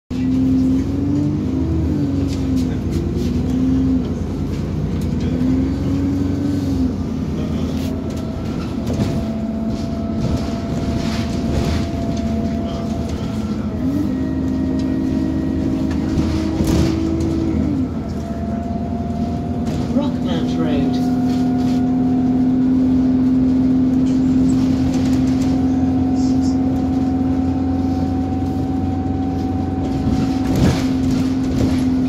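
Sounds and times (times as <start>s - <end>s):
bus engine rumble and whine: 0.1s - 32.0s.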